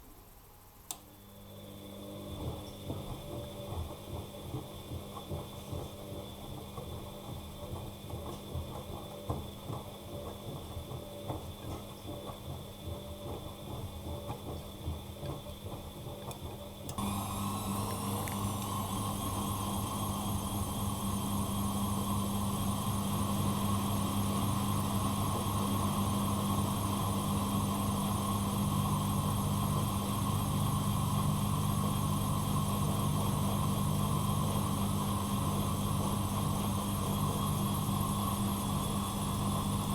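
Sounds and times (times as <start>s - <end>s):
washing machine motor whine: 1.2s - 39.9s.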